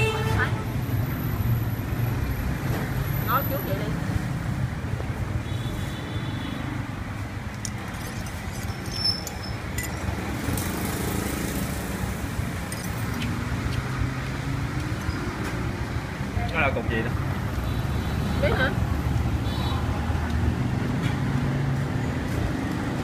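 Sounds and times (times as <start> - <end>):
street traffic hum: 0.0 - 23.0.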